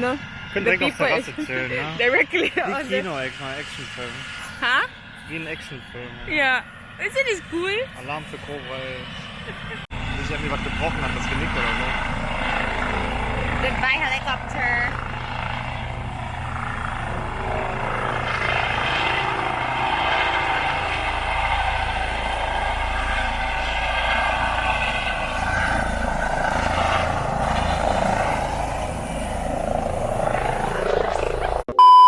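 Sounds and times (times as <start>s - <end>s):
helicopter rotor and turbine whine: 0.0s - 31.7s.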